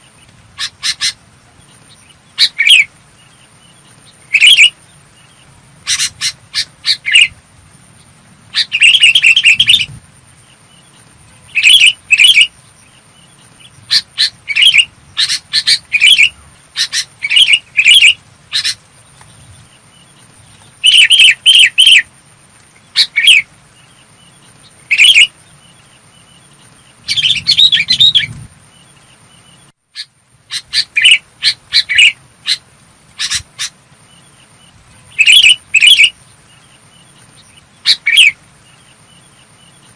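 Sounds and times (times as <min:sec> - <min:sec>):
bird calling: 0:00.0 - 0:39.9.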